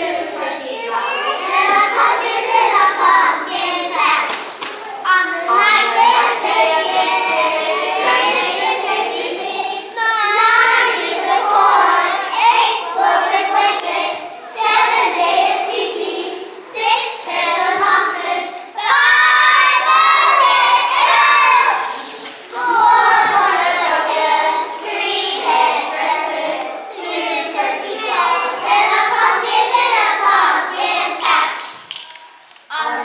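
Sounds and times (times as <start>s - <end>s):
young children singing: 0.0s - 33.0s.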